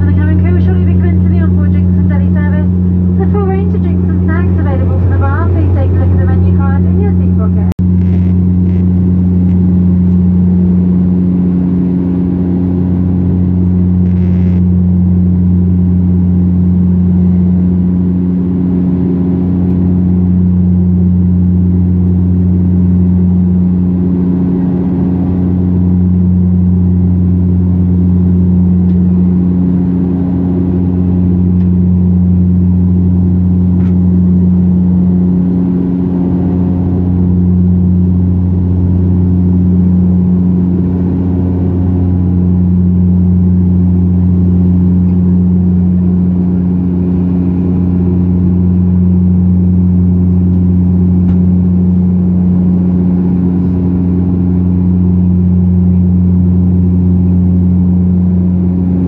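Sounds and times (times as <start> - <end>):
turboprop engines droning in cabin: 0.0 - 59.0.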